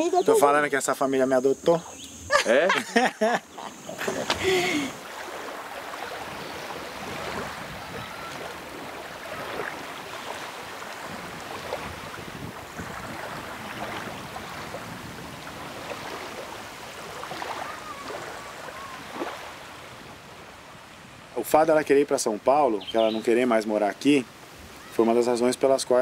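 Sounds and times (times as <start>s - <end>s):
small waves lapping on shore: 0.0s - 26.0s
wind: 0.0s - 26.0s.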